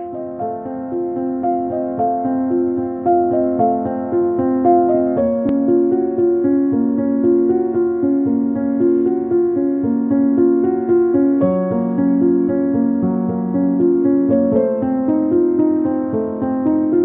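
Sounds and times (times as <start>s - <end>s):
keyboard music: 0.0s - 17.0s.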